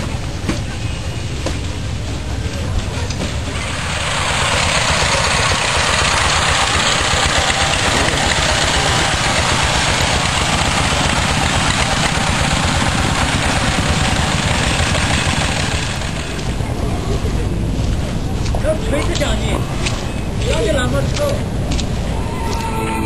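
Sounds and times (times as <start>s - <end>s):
diesel engine chugging: 0.0s - 23.0s.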